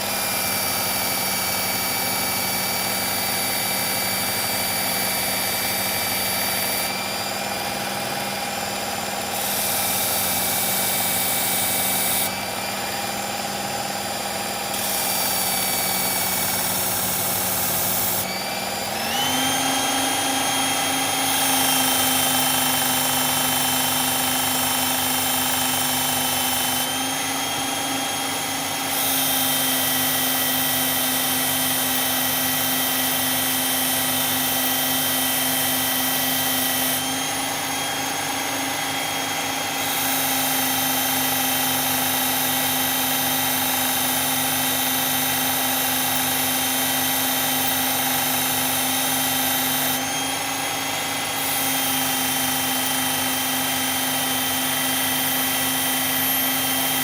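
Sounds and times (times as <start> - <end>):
belt sharpener motor whine: 0.0 - 57.0.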